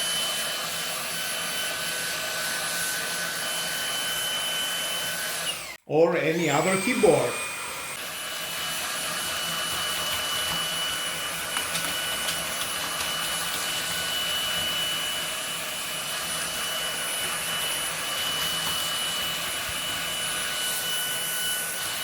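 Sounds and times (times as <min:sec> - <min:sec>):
vacuum cleaner motor whine: 0:00.0 - 0:22.0.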